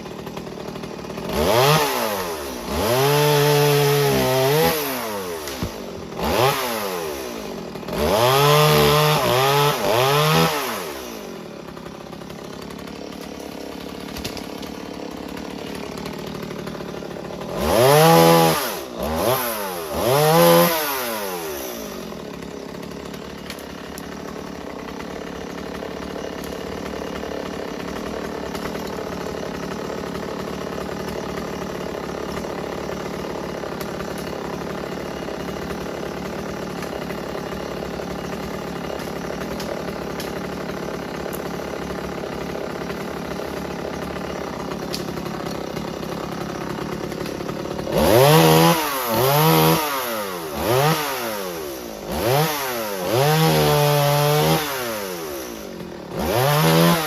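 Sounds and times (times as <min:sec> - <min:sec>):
chainsaw idling: 0:00.0 - 0:57.0
chainsaw revving: 0:00.0 - 0:57.0.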